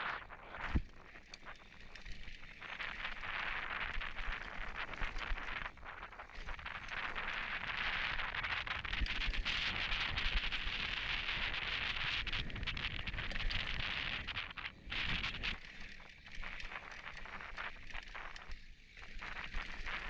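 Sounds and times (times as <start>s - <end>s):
bike rattling: 0.0s - 20.0s
bike tyres crunching over gravel: 0.0s - 20.0s.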